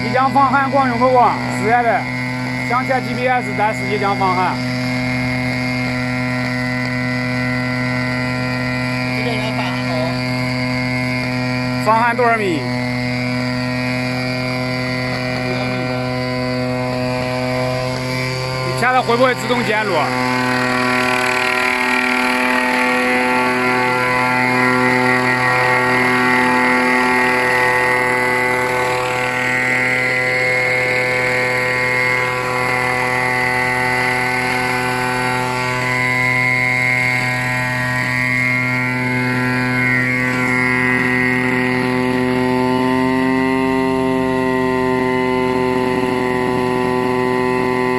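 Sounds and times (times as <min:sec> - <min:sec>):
helicopter engine and rotor droning: 0:00.0 - 0:47.9.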